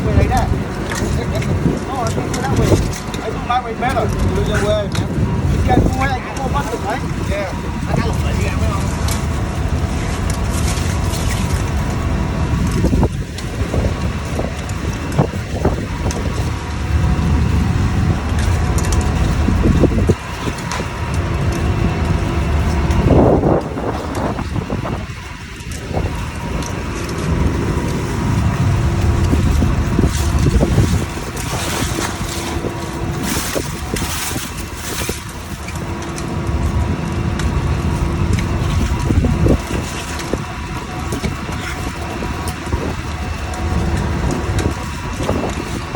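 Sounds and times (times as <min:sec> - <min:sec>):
boat engine rumbling: 0:00.0 - 0:45.9
wind on microphone: 0:00.0 - 0:45.9.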